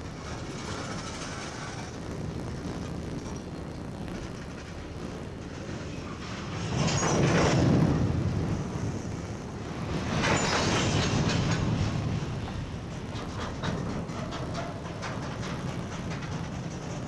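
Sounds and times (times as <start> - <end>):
train cars rolling on rails: 0.0 - 17.0
wheels clicking over rail joints: 0.0 - 17.0.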